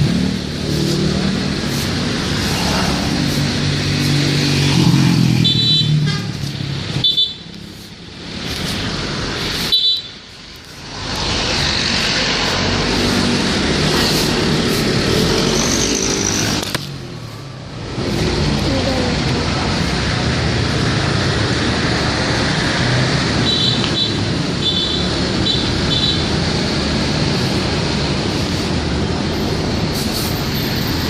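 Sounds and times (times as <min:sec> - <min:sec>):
traffic engines running: 0:00.0 - 0:31.0.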